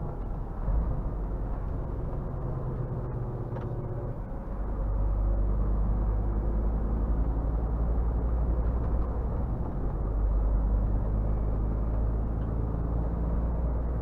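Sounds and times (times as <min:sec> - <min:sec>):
road noise: 0:00.0 - 0:14.0
truck diesel engine droning: 0:00.0 - 0:14.0.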